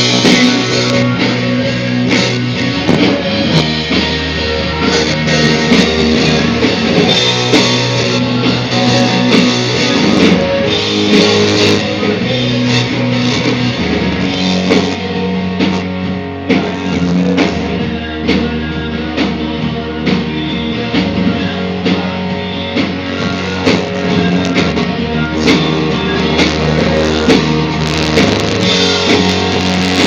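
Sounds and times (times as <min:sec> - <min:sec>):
held electric guitar notes: 0:00.0 - 0:30.0
steady drum beat: 0:00.0 - 0:30.0.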